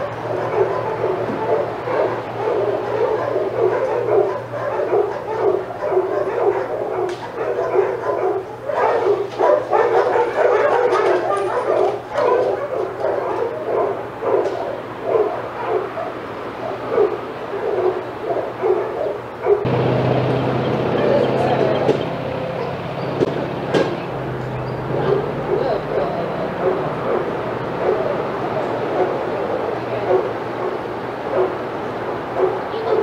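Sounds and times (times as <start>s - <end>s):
dogs barking: 0.0s - 33.0s.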